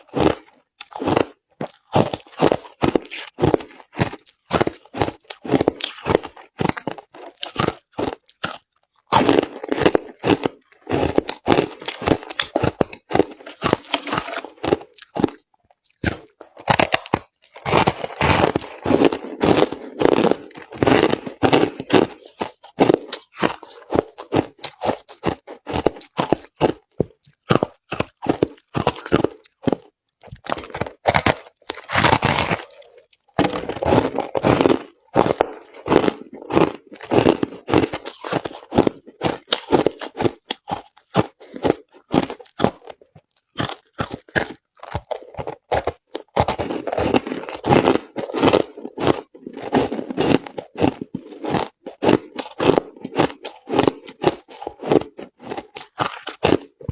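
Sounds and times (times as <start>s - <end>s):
crushed ice being chewed: 0.0s - 56.9s.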